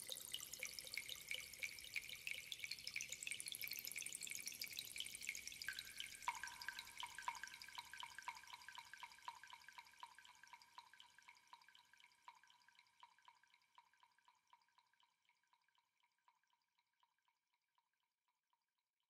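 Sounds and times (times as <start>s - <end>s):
water dripping plinks: 0.0s - 16.4s.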